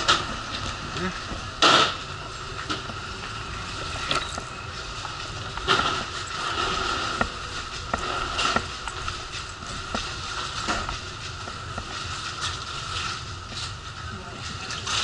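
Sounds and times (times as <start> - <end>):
wheels knocking over joints: 0.0 - 13.7
steady hum: 0.0 - 15.0
wheelchair rolling on deck: 0.0 - 15.0.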